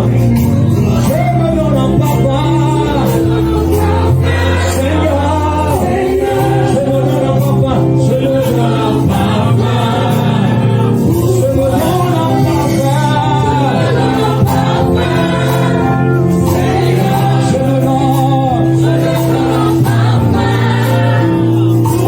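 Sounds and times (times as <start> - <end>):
bass and keyboard chords: 0.0 - 22.0
voices singing together: 0.0 - 22.0.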